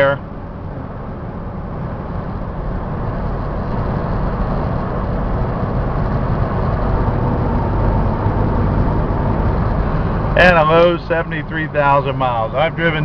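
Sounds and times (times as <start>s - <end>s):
in-cab road noise rumble: 0.0s - 13.0s.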